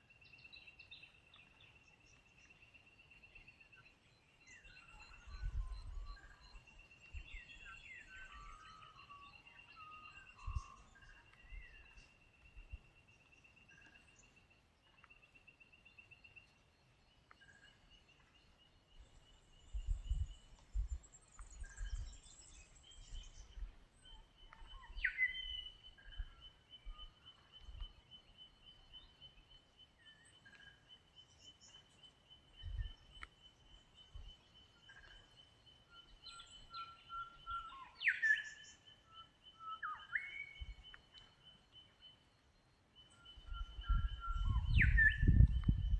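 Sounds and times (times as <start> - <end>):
bird chirps: 0.0 - 45.9.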